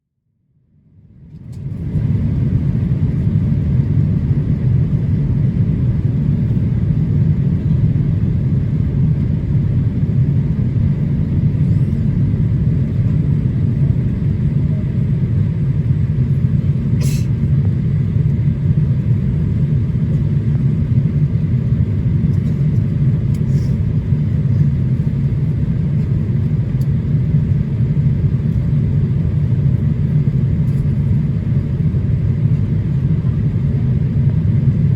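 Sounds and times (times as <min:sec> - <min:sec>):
airplane cabin rumble: 0:00.9 - 0:34.9.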